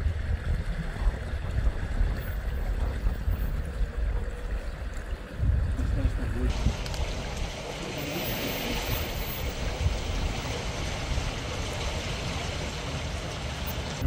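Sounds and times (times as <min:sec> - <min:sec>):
floodwater rippling and lapping: 0:00.0 - 0:14.0.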